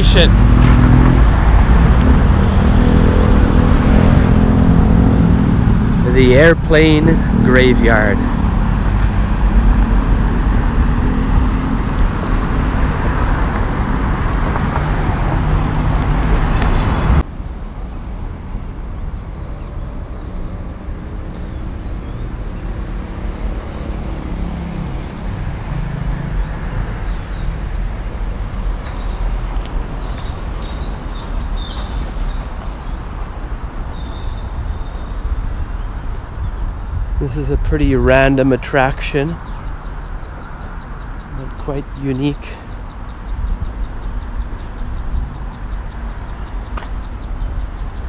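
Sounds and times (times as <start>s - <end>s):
motor vehicle engines running: 0.0s - 48.0s
traffic going by: 0.0s - 48.0s.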